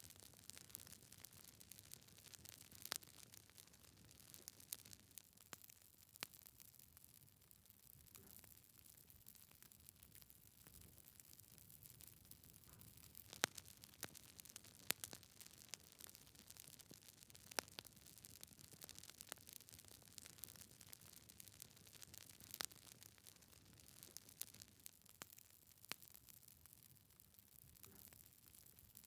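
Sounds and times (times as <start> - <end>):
faint hiss of flames: 0.0 - 29.0
wood fire crackling and popping: 0.0 - 29.0.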